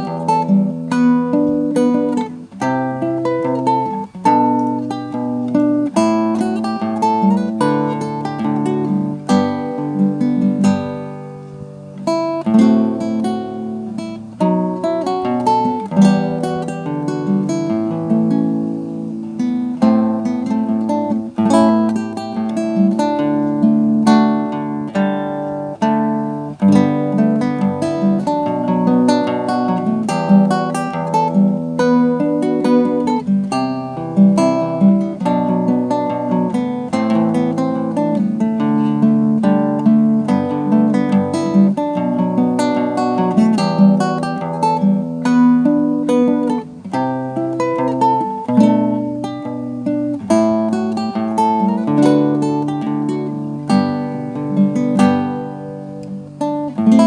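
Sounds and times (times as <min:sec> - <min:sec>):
acoustic guitar picked melody: 0:00.0 - 0:57.0.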